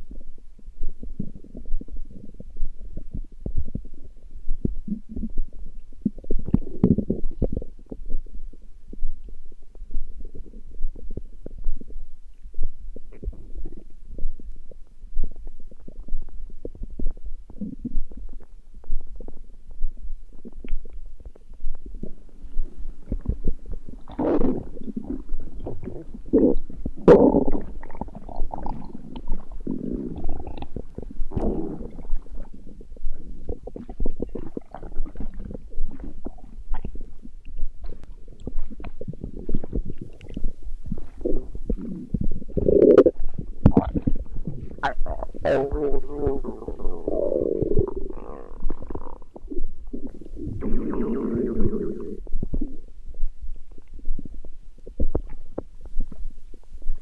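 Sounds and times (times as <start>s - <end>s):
stomach growling: 0.0s - 57.0s.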